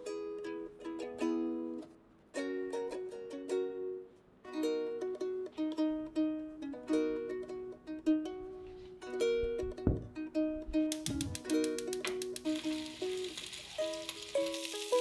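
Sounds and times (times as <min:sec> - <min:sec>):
plucked string melody: 0:00.0 - 0:15.0.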